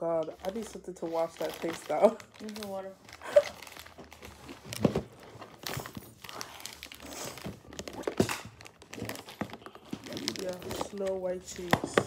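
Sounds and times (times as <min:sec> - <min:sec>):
cardboard and foil crinkling: 0:00.0 - 0:12.0.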